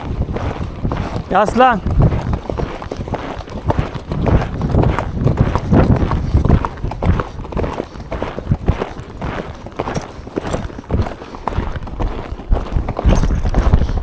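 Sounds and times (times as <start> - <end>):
horse hoofbeats on trail: 0.0 - 14.0.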